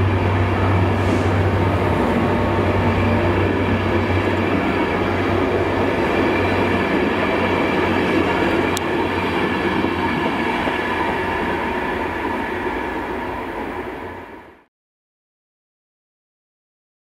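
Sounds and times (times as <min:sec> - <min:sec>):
train wheels on rails: 0:00.0 - 0:14.6.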